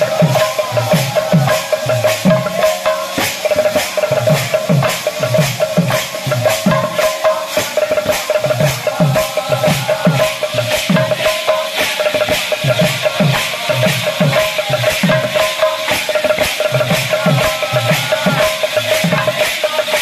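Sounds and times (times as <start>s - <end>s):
barrel drum played by hand: 0.0s - 20.0s
hand cymbals clashing: 0.0s - 20.0s
held steady note: 0.0s - 20.0s.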